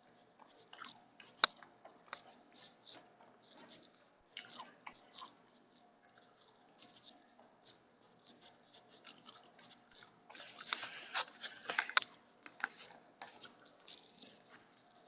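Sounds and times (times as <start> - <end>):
salad eating crackles: 0.0 - 15.0.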